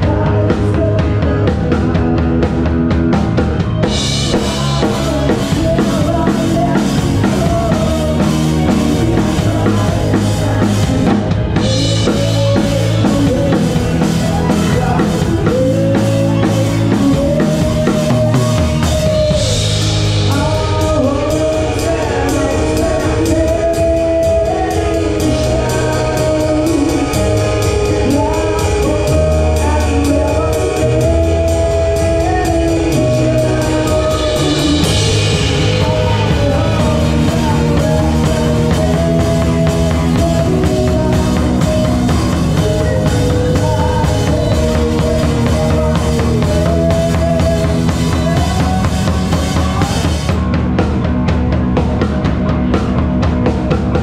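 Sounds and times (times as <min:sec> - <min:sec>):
bass notes: 0:00.0 - 0:54.0
drums with fast cymbal: 0:00.0 - 0:54.0
person singing: 0:00.0 - 0:54.0.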